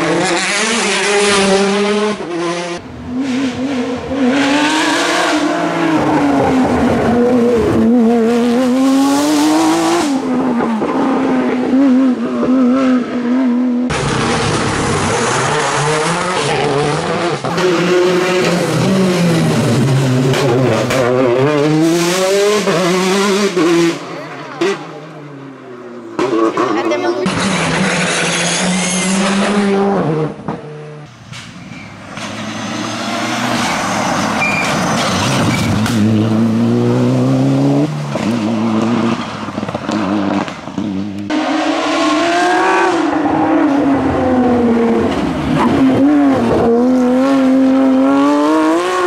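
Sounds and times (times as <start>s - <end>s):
rally car engines revving: 0.0s - 49.0s.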